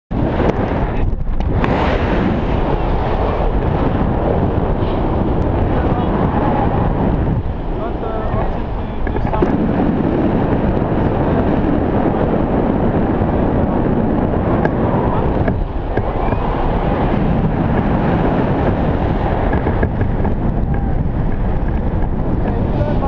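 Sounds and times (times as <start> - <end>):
wind buffeting microphone: 0.1 - 23.0.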